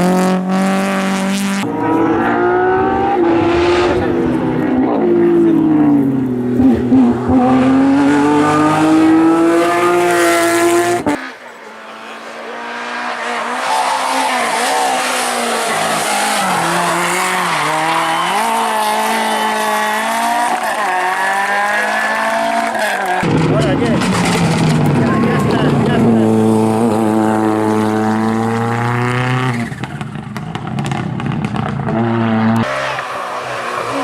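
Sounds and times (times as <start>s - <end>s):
rally car changing gears: 0.0s - 34.0s
rally car engine accelerating: 0.0s - 34.0s.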